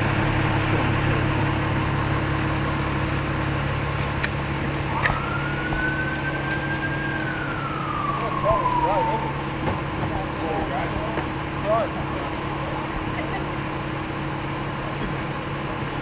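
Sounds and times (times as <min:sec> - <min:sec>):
emergency siren wailing: 0:00.0 - 0:15.6
vehicle engine idling: 0:00.0 - 0:16.0.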